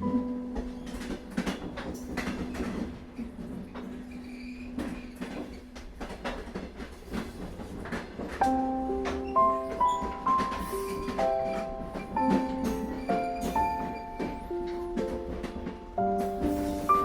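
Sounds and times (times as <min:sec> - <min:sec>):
train rumbling on rails: 0:00.0 - 0:17.0
wheels clicking over rail joints: 0:00.0 - 0:17.0.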